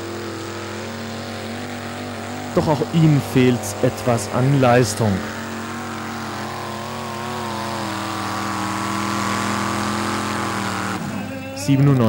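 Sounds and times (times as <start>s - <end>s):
tractor engine under heavy load: 0.0s - 12.0s.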